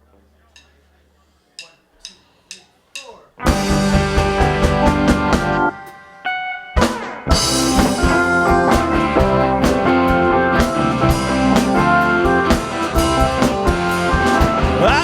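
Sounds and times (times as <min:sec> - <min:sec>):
rock band playing: 0:03.0 - 0:15.0.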